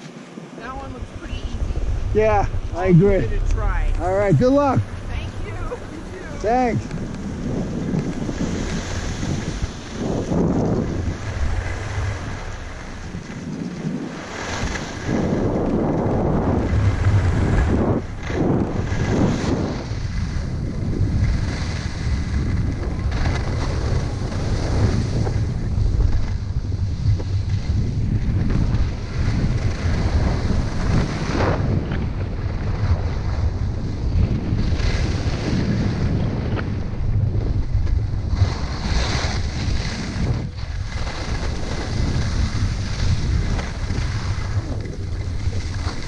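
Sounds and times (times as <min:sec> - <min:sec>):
skis scraping over snow: 0:00.0 - 0:46.0
wind buffeting microphone: 0:00.0 - 0:46.0.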